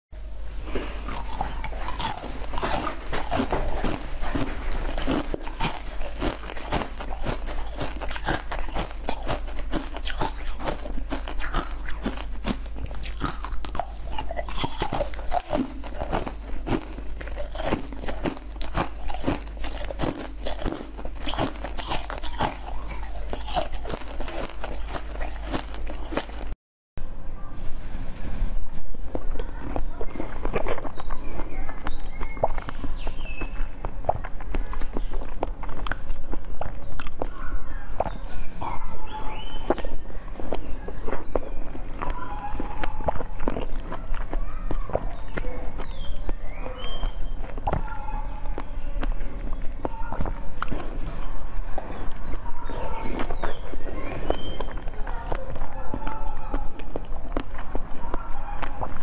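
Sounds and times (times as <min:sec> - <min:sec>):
chewing and crunching lollipops: 0:00.2 - 0:26.6, 0:29.1 - 0:59.0
faint low hum: 0:00.2 - 0:59.0.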